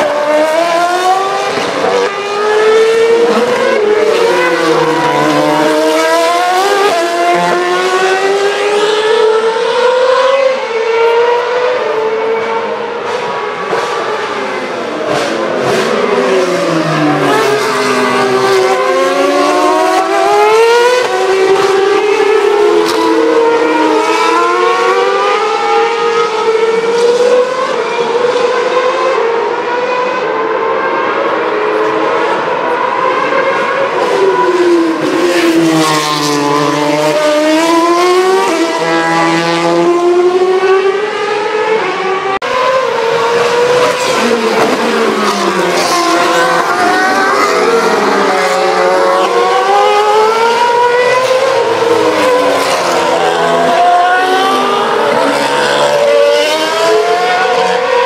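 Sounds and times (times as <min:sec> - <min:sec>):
racing car engines passing: 0:00.0 - 0:58.0.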